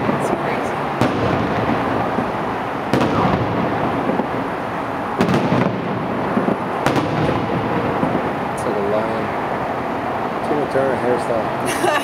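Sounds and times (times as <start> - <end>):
low rumble: 0.0 - 10.4
firework shells booming: 0.0 - 10.8.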